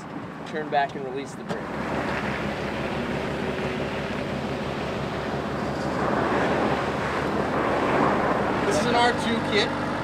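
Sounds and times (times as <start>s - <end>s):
rally car engines running: 0.0s - 10.0s.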